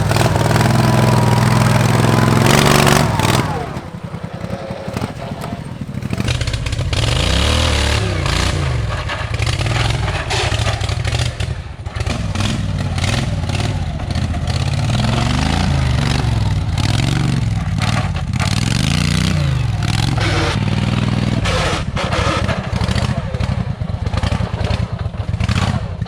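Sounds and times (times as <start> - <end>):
lawn tractor engine revving: 0.0 - 25.7.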